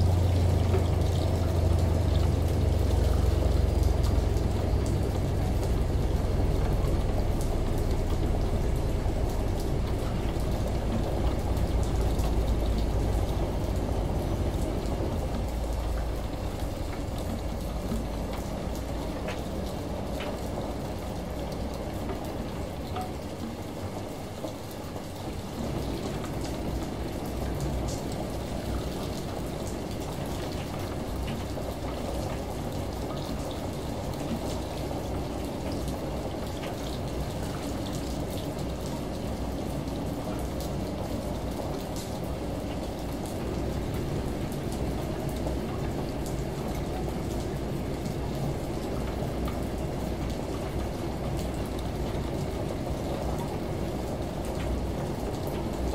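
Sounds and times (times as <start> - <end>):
rain falling outside: 0.0 - 55.9
washing machine drone: 0.0 - 55.9.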